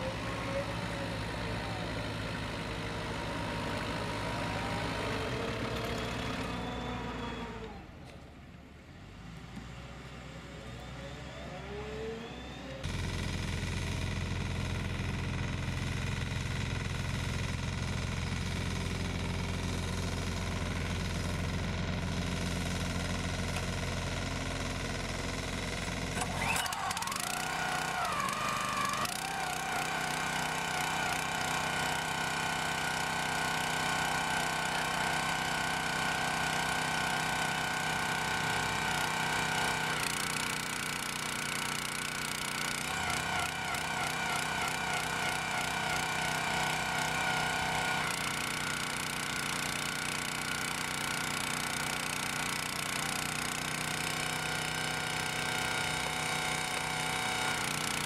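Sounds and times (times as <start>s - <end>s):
small petrol engine running: 0.0s - 8.2s, 10.6s - 58.0s.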